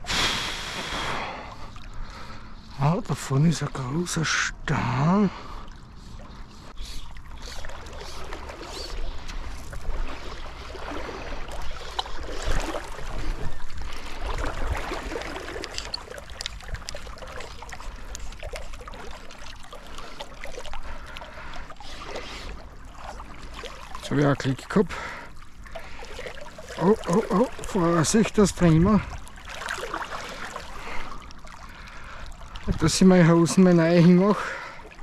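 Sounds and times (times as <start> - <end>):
river water splashing: 0.0 - 35.0.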